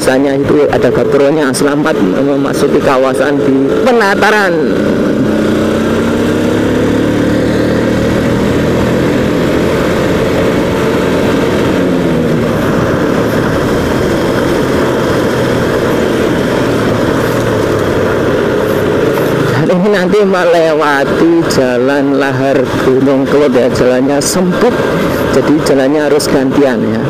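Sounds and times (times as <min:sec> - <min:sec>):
motorcycle engine running: 0:00.0 - 0:27.0
road noise: 0:00.0 - 0:27.0.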